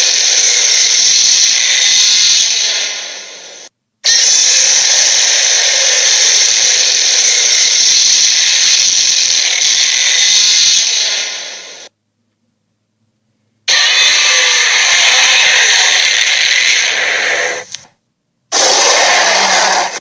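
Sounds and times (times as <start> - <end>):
dragon hissing rasp: 0.0 - 11.9, 13.7 - 17.8, 18.5 - 20.0.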